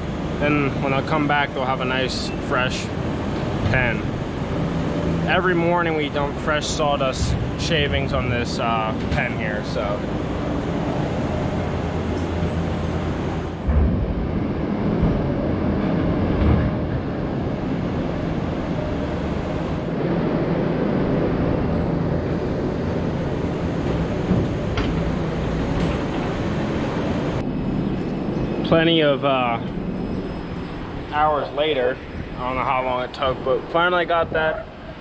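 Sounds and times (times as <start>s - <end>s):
diesel loader engine running: 0.0s - 35.0s.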